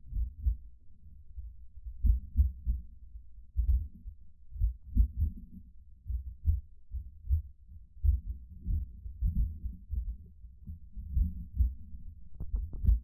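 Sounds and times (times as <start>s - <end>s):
low thumps on microphone: 1.4s - 2.8s, 3.6s - 13.0s.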